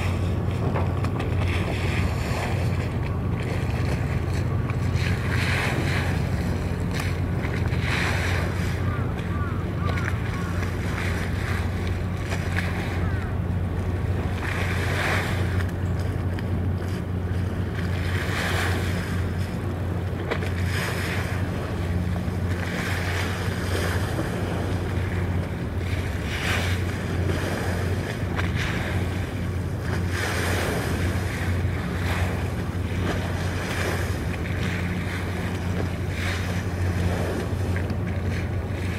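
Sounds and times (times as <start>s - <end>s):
ship engines droning: 0.0s - 38.9s
water rushing and splashing: 0.0s - 38.9s.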